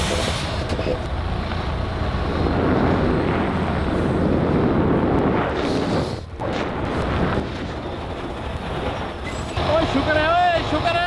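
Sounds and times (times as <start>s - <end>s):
diesel truck engine rumble: 0.0s - 11.0s
noisy rush: 0.0s - 11.0s.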